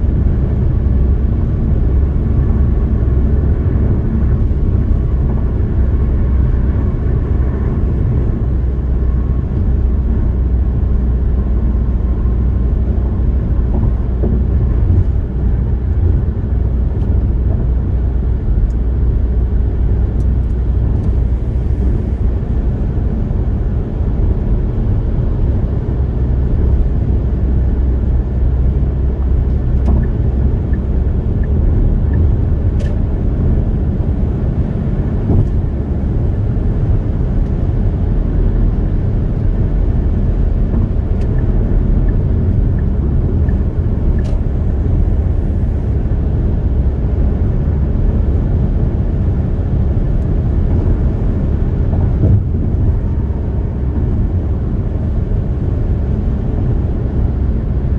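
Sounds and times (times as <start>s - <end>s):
car engine drone: 0.0s - 57.9s
tyre and road rumble: 0.0s - 57.9s.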